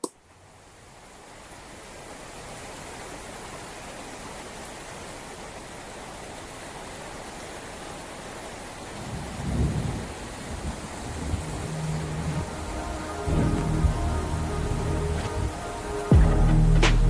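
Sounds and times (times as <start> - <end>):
heavy rain hissing: 0.2 - 17.0.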